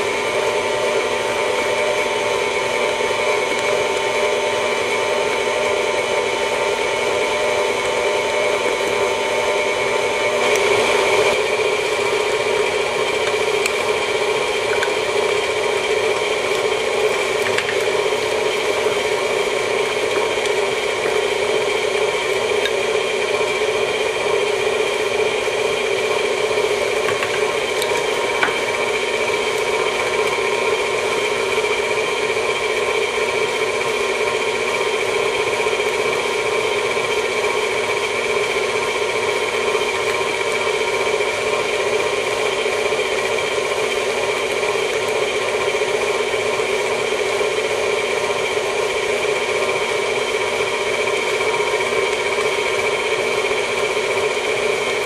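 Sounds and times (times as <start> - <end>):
stand mixer humming: 0.0 - 55.0.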